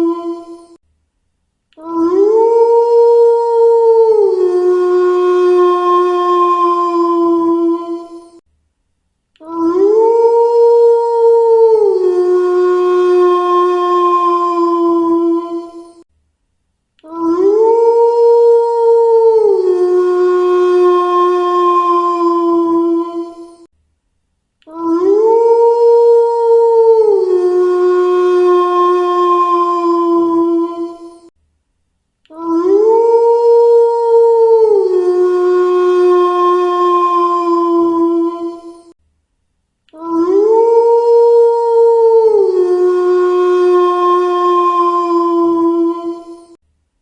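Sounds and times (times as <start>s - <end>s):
wolf howling: 0.0s - 0.8s, 1.8s - 8.4s, 9.4s - 16.0s, 17.1s - 23.7s, 24.7s - 31.3s, 32.3s - 38.9s, 40.0s - 46.6s.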